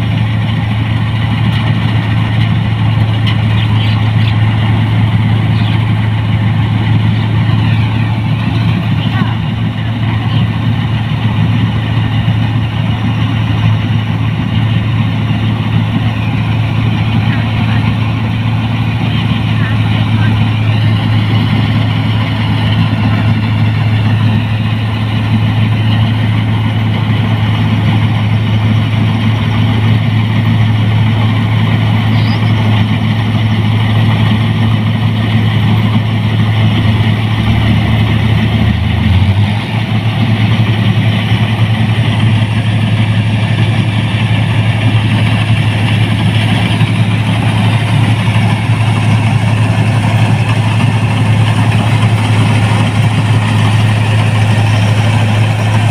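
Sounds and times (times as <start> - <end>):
combine harvester engine hum: 0.0 - 55.9
threshing machinery churning: 0.0 - 55.9.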